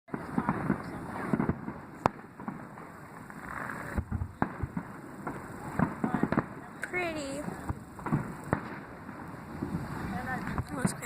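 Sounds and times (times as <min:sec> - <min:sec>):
firework bangs: 0:00.1 - 0:11.0
fireworks popping and crackling: 0:00.1 - 0:11.0.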